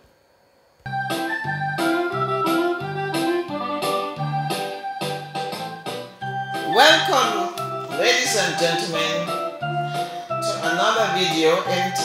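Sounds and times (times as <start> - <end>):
keyboard chords: 0.9 - 12.0
steady bass line: 0.9 - 12.0.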